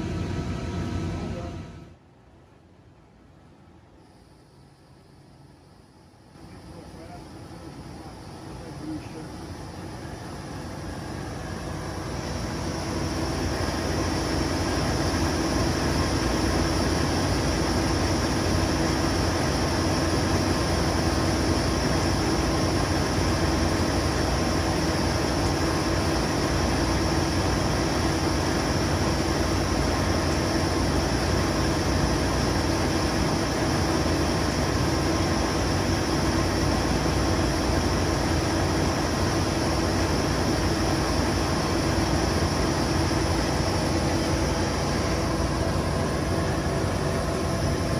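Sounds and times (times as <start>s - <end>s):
machining center humming: 0.0s - 2.0s, 3.5s - 47.9s.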